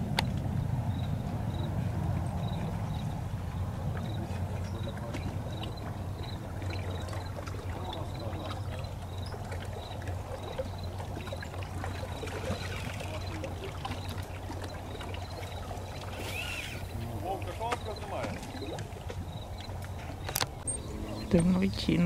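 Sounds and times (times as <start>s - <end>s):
water lapping against rocks: 1.2s - 22.0s.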